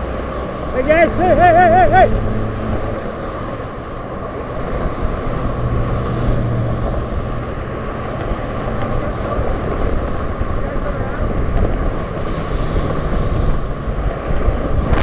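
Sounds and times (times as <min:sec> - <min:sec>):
road traffic rushing past: 0:00.0 - 0:15.0
vehicle engine hum: 0:00.0 - 0:15.0.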